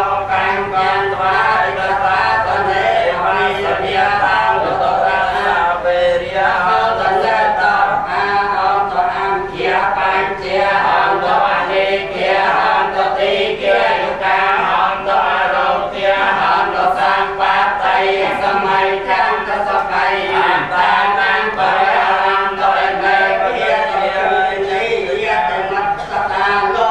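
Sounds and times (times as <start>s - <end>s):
men chanting in unison: 0.0s - 26.9s.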